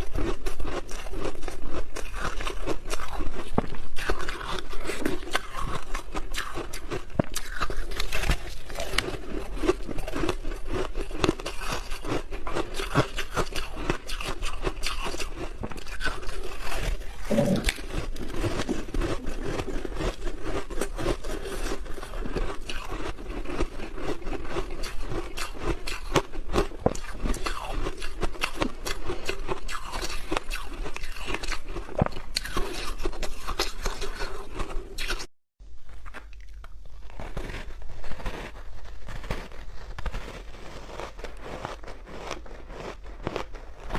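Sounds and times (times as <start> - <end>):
ice being bitten and chewed: 0.0 - 43.9.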